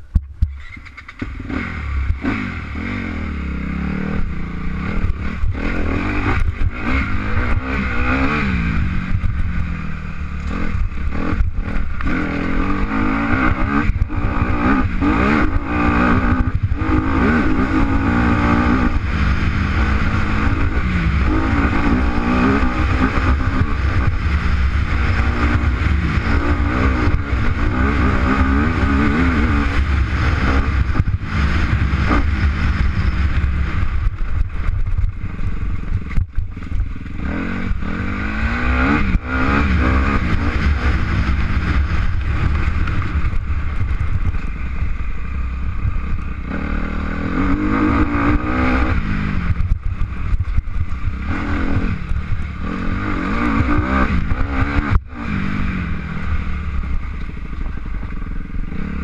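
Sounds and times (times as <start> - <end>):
engine revving: 0.0 - 59.0
steady low rumble: 0.0 - 59.0.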